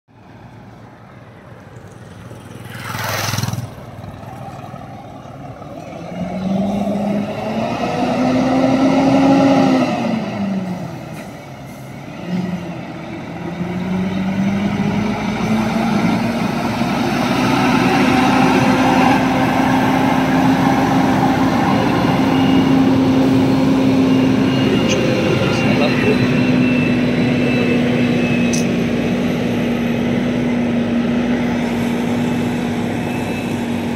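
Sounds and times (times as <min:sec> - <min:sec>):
truck diesel engine drone: 0:00.1 - 0:33.9
vehicle passing: 0:00.4 - 0:33.9.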